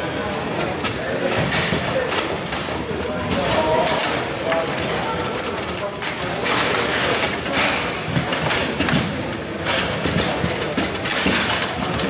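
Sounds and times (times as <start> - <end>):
ball and figures clacking: 0.6 - 12.0
table football rods rattling: 0.6 - 12.0.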